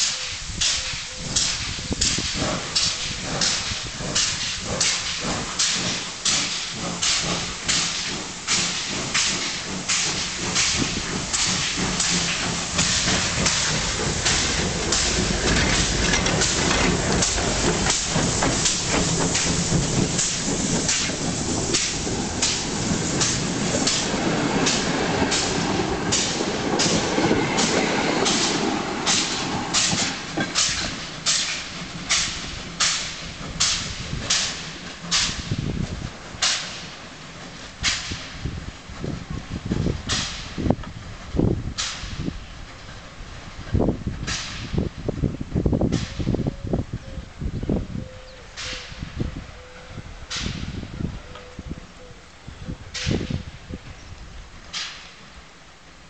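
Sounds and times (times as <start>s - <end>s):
steam locomotive chuffing: 0.0s - 46.4s
train wheels rumbling and clattering: 0.0s - 56.0s.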